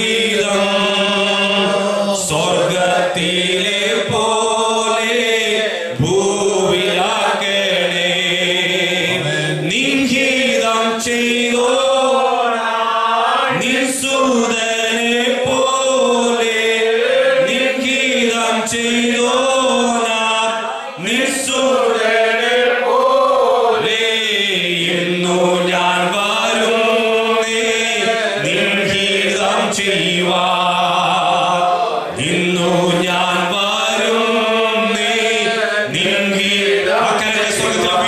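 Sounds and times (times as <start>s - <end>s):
slow worship singing: 0.0s - 38.0s.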